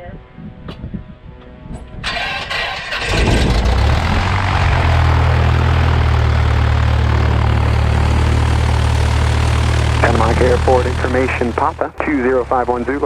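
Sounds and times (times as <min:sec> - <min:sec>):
aircraft engine idling: 0:02.0 - 0:13.0.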